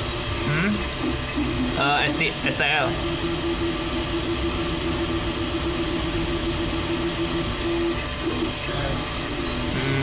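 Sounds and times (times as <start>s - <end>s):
stepper motors whining: 0.0s - 10.0s.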